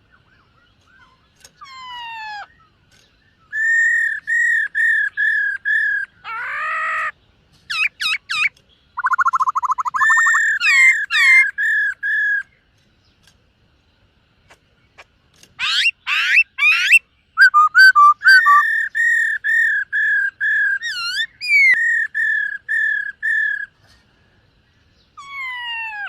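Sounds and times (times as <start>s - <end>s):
bird singing whistled song: 0.0s - 12.7s, 15.6s - 23.8s.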